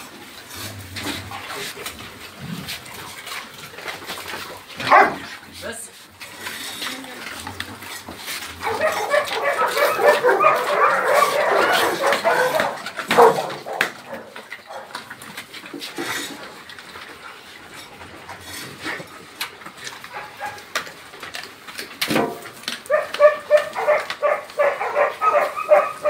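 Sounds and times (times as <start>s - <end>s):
dogs barking and yelping: 0.5s - 5.4s, 6.7s - 26.0s.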